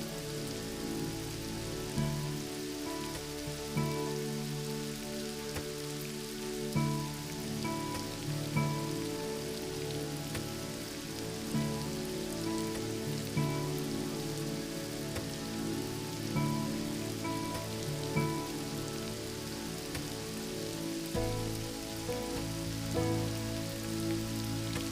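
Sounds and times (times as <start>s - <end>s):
soft music of sustained chords: 0.0s - 24.9s
steady rain hiss: 0.0s - 24.9s.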